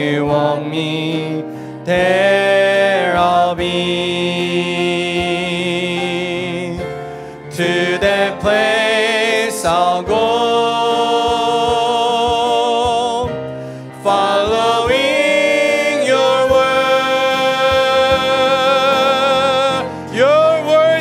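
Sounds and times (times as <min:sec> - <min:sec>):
instrumental accompaniment: 0:00.0 - 0:21.0
man singing worship song: 0:00.0 - 0:21.0.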